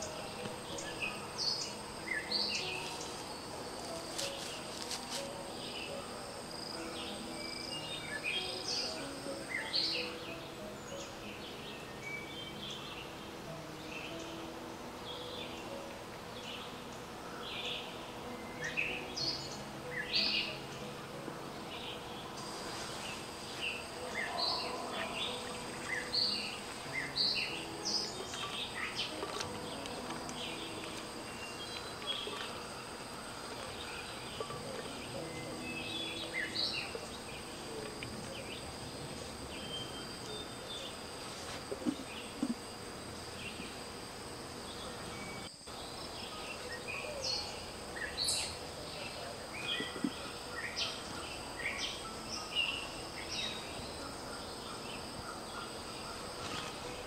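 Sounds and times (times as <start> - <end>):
birds chirping: 0.0 - 43.9, 44.6 - 57.0
insect drone: 0.0 - 57.0.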